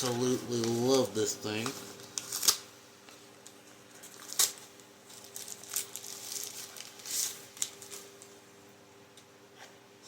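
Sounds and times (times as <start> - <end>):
tape and packaging rustling: 0.0 - 8.4.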